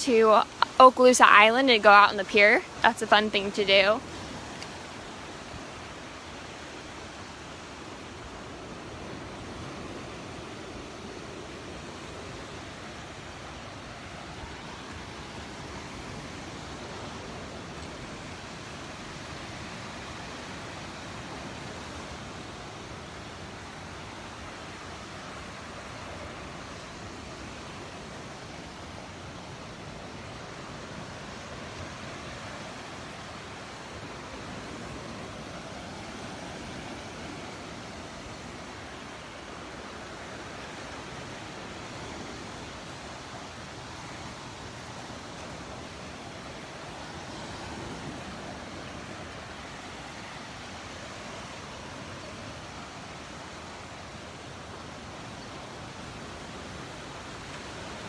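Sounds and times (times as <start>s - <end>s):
surf washing onto beach: 0.0s - 58.0s.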